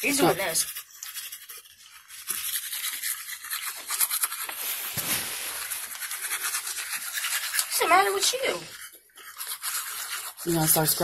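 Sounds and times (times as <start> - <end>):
toothbrush scrubbing teeth: 0.0 - 11.0.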